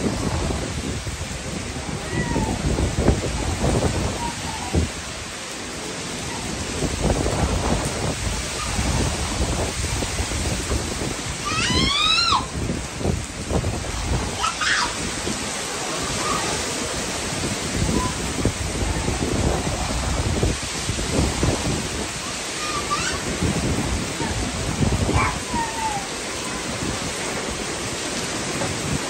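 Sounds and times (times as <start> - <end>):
heavy rain pouring: 0.0 - 29.0
wind buffeting microphone: 0.0 - 29.0
wind gusting through trees: 0.0 - 29.0.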